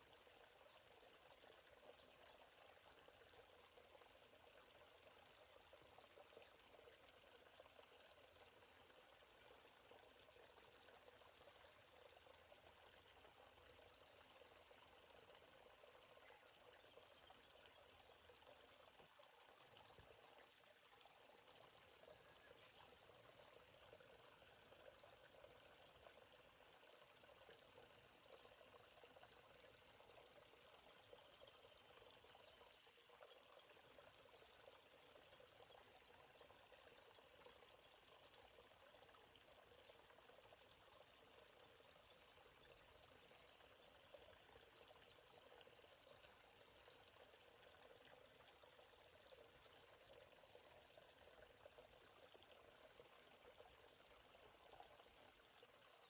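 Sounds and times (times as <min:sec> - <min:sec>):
high-pitched insect chorus: 0:00.0 - 0:56.0
stream trickling faintly: 0:00.0 - 0:56.0.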